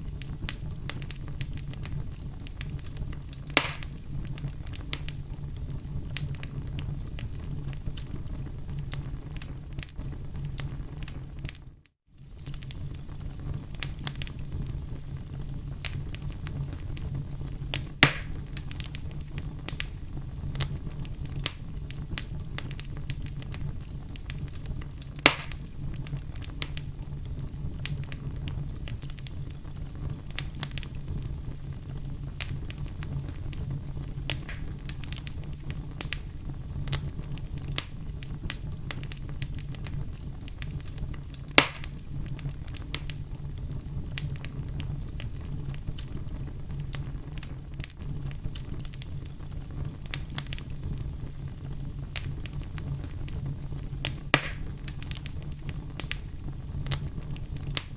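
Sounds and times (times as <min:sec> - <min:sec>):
sharp pops of fire: 0:00.0 - 0:11.6, 0:12.2 - 0:57.9
fire crackling: 0:00.0 - 0:57.9
low rumble of fire: 0:00.0 - 0:57.9.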